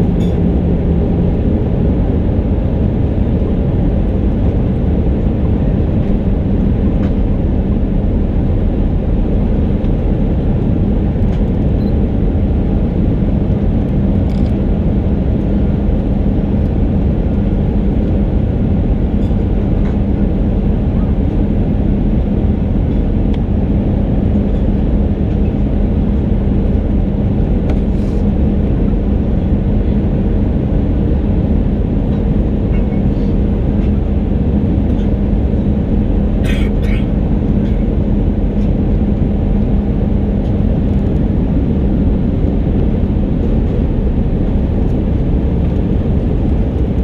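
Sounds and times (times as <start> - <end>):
airplane cabin engine rumble: 0.0 - 47.0
steady low hum: 0.0 - 47.0.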